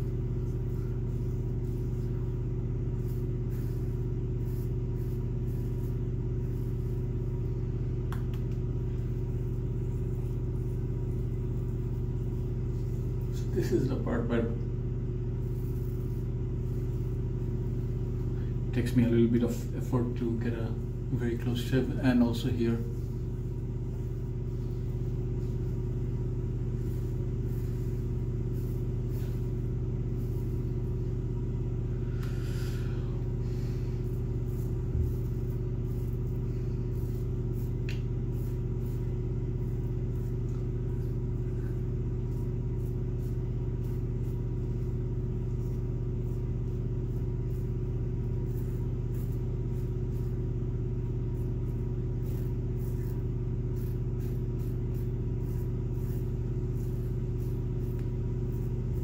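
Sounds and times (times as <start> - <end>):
razor scraping stubble: 0.0 - 7.5, 15.3 - 22.5, 23.1 - 59.0
low mechanical hum: 0.0 - 59.0.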